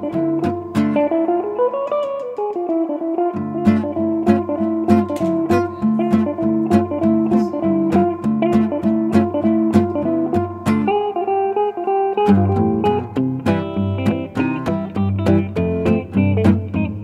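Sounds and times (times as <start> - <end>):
guitar-led instrumental music: 0.0 - 17.0.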